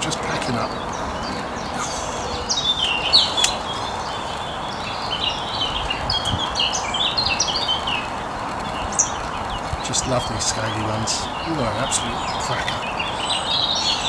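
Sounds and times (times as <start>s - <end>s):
songbirds chirping: 0.0s - 14.0s
steady background noise: 0.0s - 14.0s.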